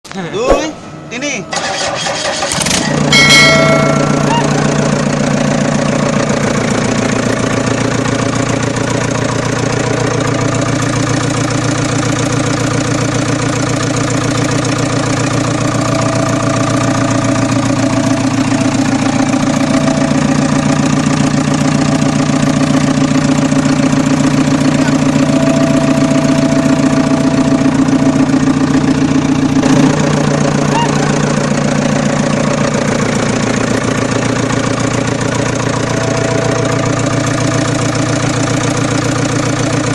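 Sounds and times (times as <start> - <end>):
diesel engine running: 0.1 - 39.9.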